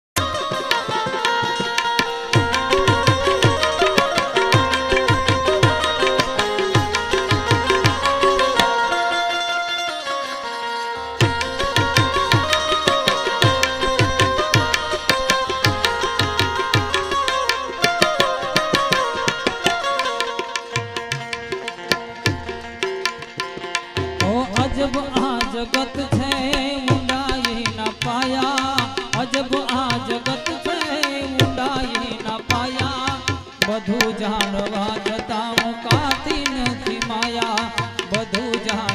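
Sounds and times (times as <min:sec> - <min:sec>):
hand drum beat: 0:00.2 - 0:09.2, 0:11.2 - 0:38.9
harmonium melody: 0:00.2 - 0:38.9.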